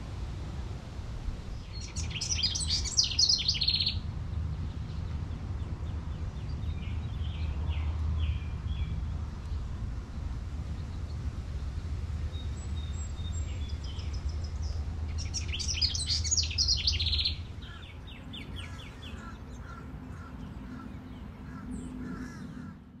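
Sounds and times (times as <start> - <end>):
low rumble: 0.0 - 22.7
wild birds chirping: 1.4 - 23.0.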